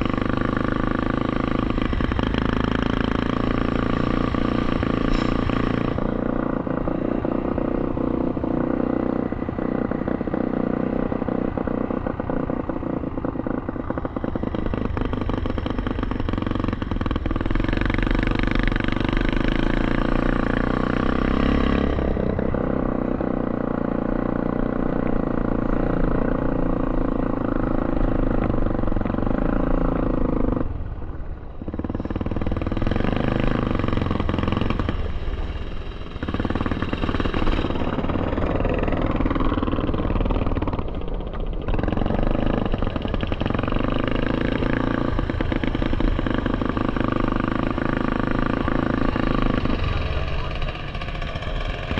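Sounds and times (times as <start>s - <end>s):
atv engine at low speed: 0.0s - 51.9s.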